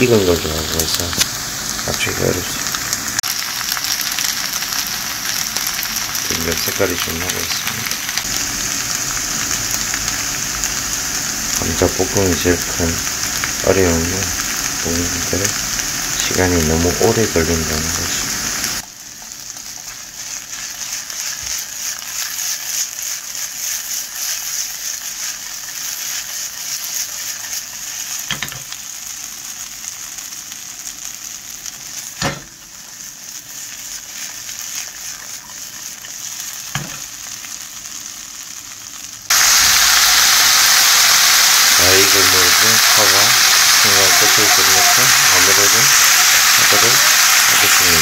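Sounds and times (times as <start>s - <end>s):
potatoes sizzling in oil: 0.0s - 48.0s.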